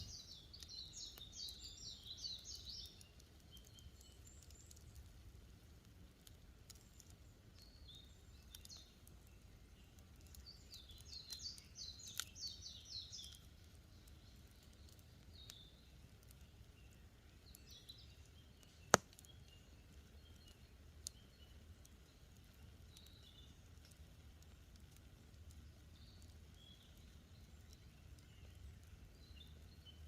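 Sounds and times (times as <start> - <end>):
birds chirping: 0.0 - 30.0
campfire crackling: 0.0 - 30.0.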